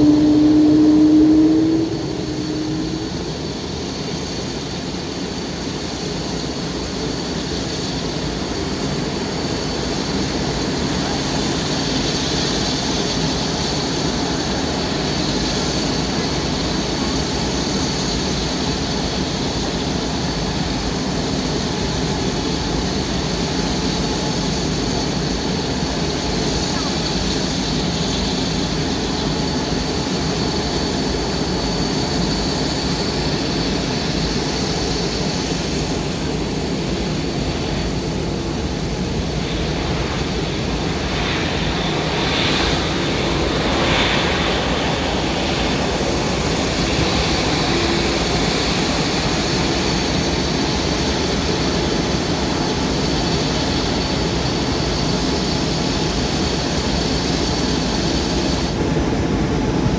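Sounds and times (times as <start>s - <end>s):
high engine whine: 0.0s - 59.9s
jet engines rumbling: 0.0s - 59.9s.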